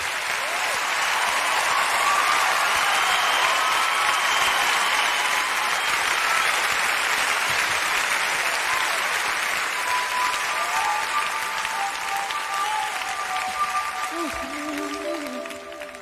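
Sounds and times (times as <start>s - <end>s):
large audience applauding: 0.0s - 16.0s.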